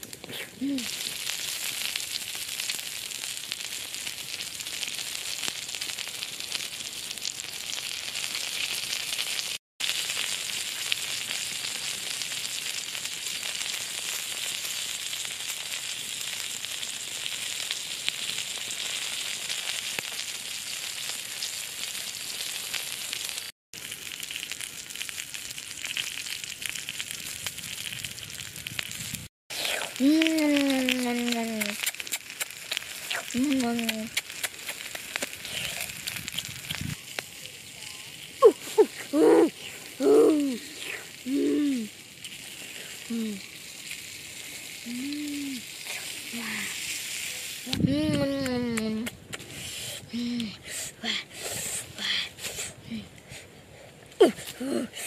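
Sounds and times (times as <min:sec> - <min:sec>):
pork sizzling on hot stone: 0:00.0 - 0:54.8.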